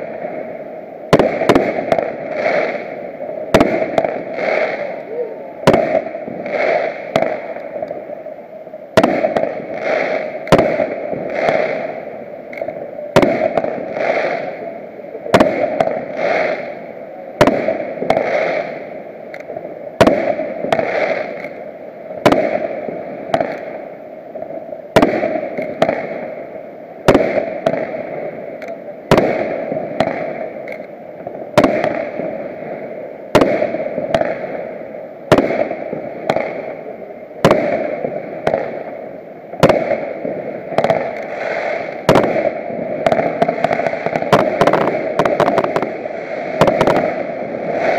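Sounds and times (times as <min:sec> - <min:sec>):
continuous hiss: 0:00.0 - 0:47.9.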